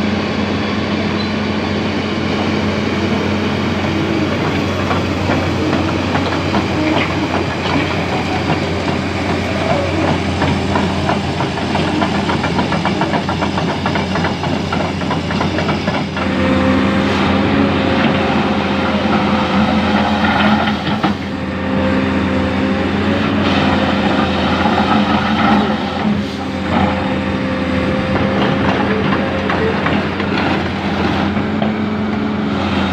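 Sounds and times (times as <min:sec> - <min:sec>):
diesel engines running: 0:00.0 - 0:32.9.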